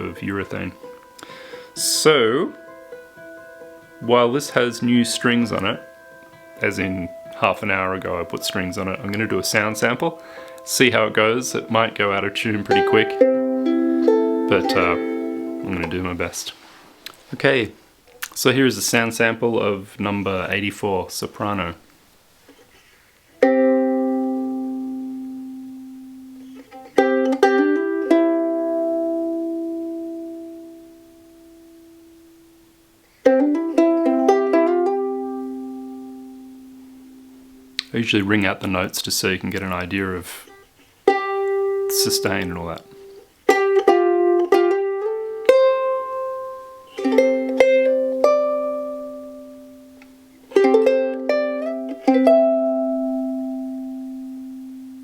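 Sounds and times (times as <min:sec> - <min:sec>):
ukulele chords ringing: 0:00.0 - 0:16.6, 0:23.4 - 0:55.0.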